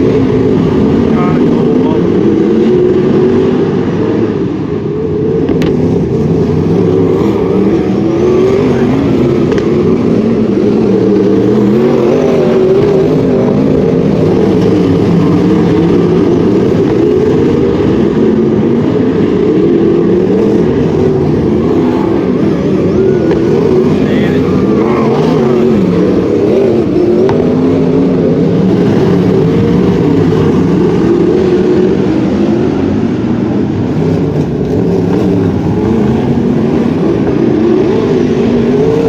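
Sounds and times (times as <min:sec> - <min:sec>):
racing car engines: 0:00.0 - 0:39.0.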